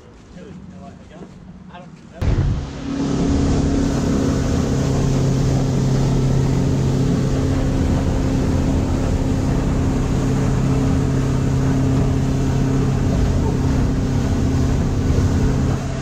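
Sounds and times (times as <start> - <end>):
motorboat engine drone: 2.2 - 16.0
water rushing past hull: 2.2 - 16.0.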